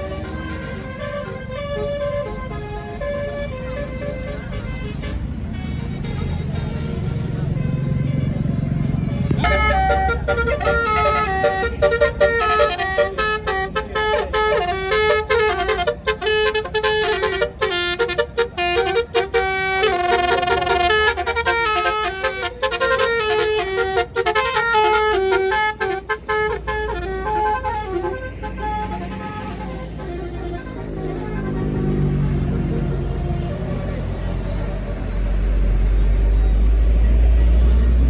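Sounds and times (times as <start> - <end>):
multi-tone bus horn tune: 0.0 - 38.0.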